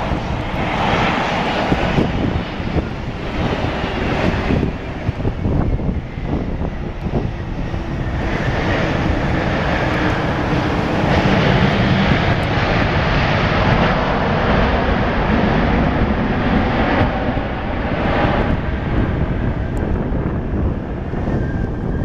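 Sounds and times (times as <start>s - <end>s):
jet engine rushing: 0.0s - 22.0s.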